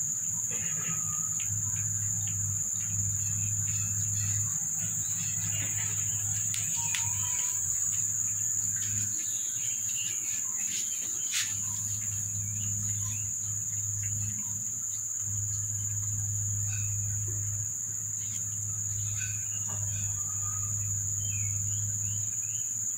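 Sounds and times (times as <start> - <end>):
low hum: 0.0 - 10.6, 11.5 - 22.4
high-pitched insect drone: 0.0 - 22.9.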